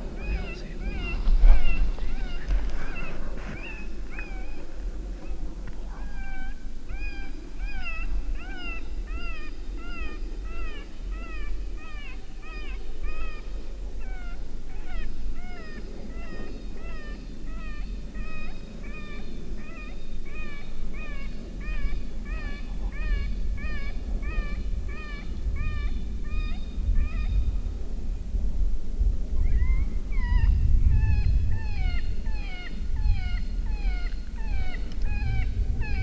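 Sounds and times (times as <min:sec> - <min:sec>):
high-pitched whining distress calls: 0:00.0 - 0:27.3, 0:29.5 - 0:36.0
wind rumble on microphone: 0:00.0 - 0:36.0.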